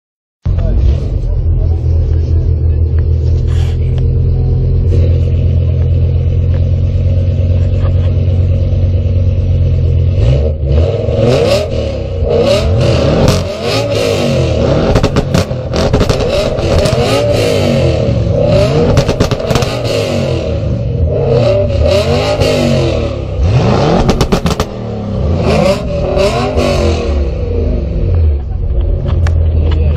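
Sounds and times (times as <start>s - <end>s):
car engines idling and revving: 0.4s - 29.9s
exhaust cracks: 0.4s - 29.9s.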